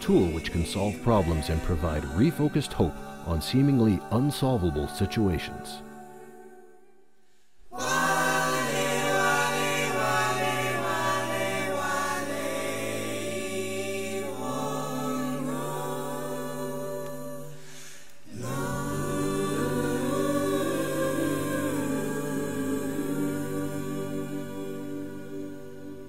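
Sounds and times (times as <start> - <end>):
wordless choir chords: 0.0 - 26.0.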